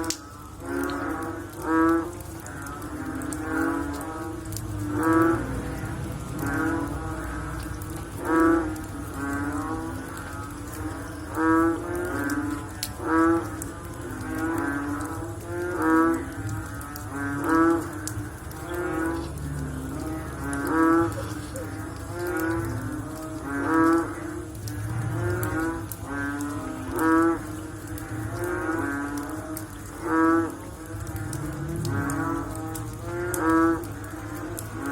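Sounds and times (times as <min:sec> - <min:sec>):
frogs calling: 0:00.0 - 0:34.9.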